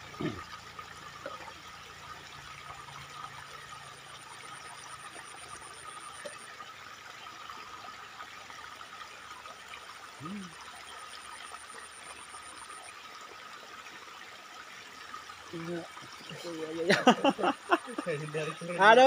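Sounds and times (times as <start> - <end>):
small river flowing: 0.0 - 19.0.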